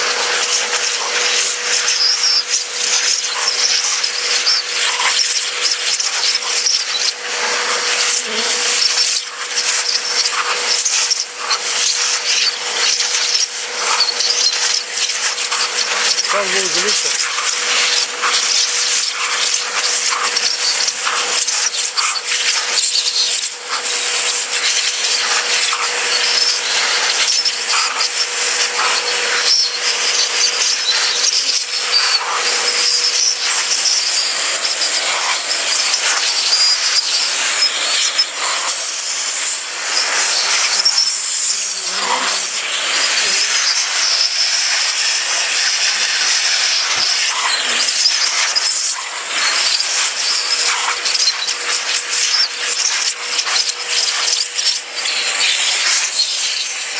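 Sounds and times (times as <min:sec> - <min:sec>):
vacuum cleaner blowing air: 0:00.0 - 0:56.9.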